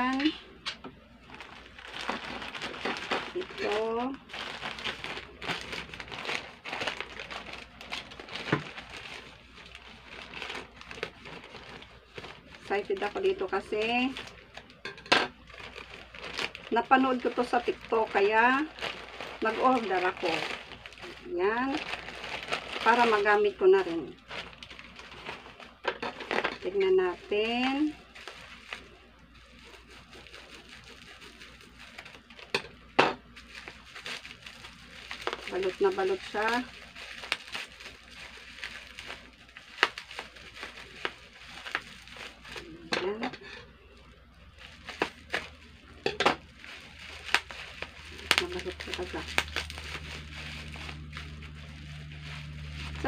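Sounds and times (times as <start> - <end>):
plastic mailer bag crinkling: 0.0 - 53.0.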